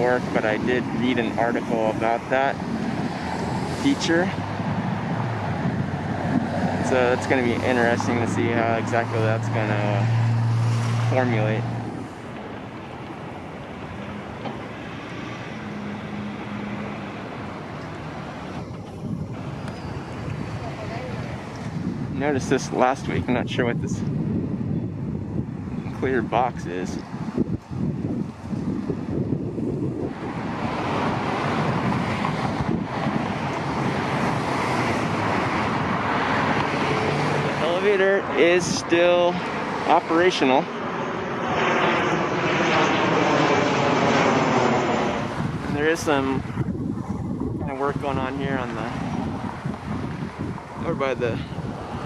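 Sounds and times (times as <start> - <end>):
traffic rumble: 0.0 - 52.0
wind on microphone: 0.0 - 52.0.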